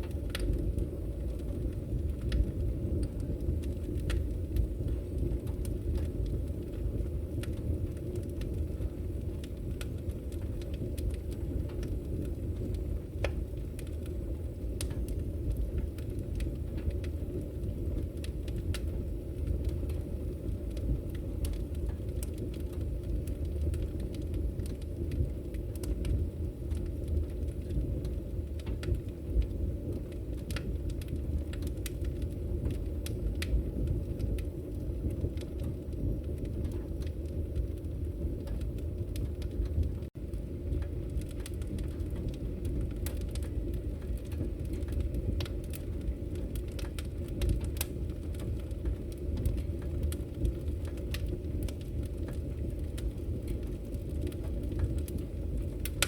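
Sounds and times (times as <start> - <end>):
fire crackles and pops: 0.0 - 56.0
low rumble of flames: 0.0 - 56.0.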